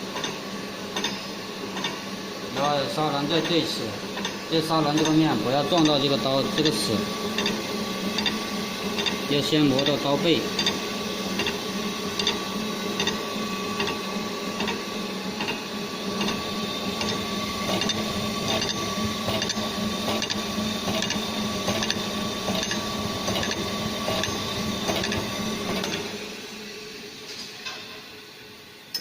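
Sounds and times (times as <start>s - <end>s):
grinder motor humming with strokes: 2.5s - 26.8s.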